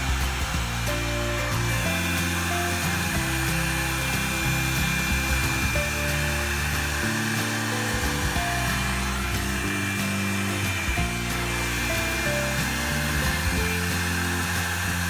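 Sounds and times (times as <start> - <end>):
background music of held notes: 0.0 - 15.0
hair dryer brush blowing air: 0.0 - 15.0.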